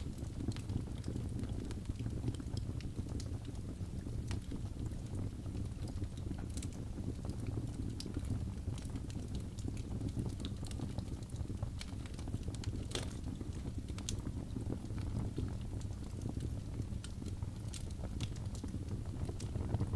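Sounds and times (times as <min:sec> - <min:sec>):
fire burning rumble: 0:00.0 - 0:19.9
fire popping and crackling: 0:00.0 - 0:19.9.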